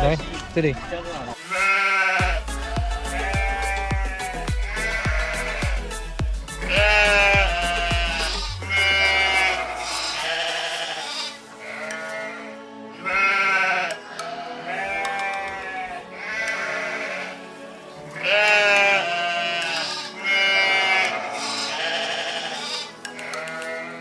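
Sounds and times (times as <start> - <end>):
background pop music: 0.0 - 24.0
goats and sheep bleating: 0.4 - 24.0.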